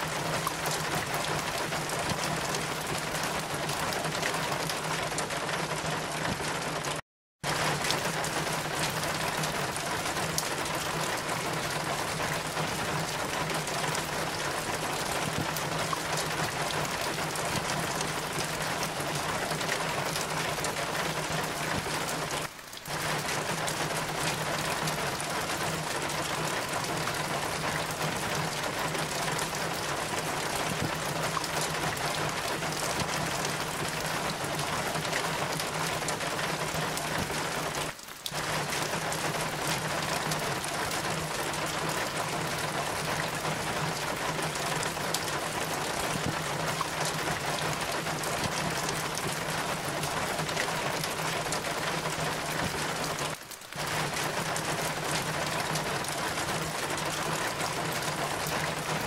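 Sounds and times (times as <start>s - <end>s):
rain pattering on hard surfaces: 0.0s - 59.0s.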